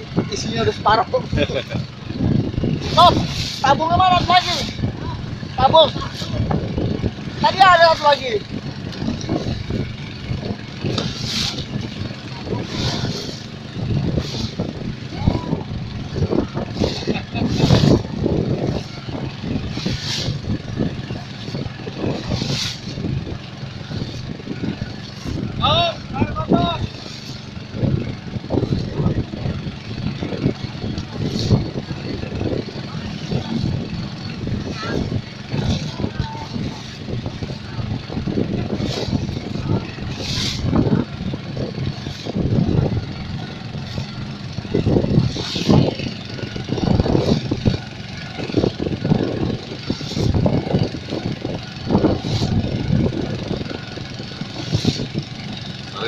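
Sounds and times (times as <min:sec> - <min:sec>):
engine rumble: 0:00.0 - 0:56.0.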